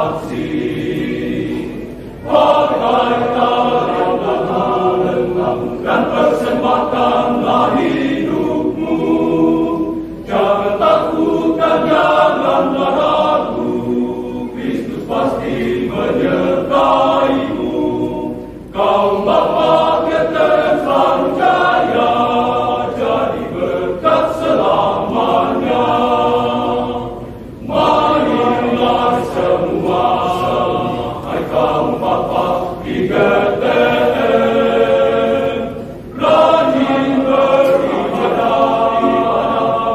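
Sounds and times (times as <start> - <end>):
men's choir singing: 0.0 - 39.9.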